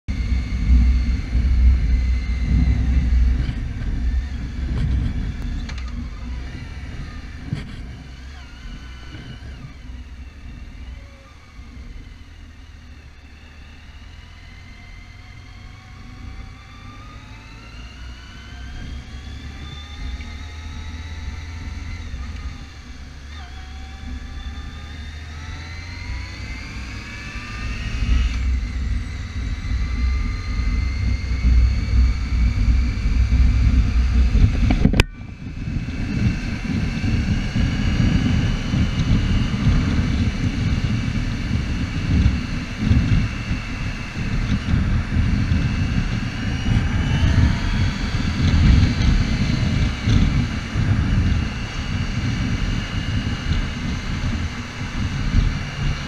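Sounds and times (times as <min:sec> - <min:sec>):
motorcycle engine running: 0:00.0 - 0:56.0
wind rumble on microphone: 0:00.1 - 0:56.0.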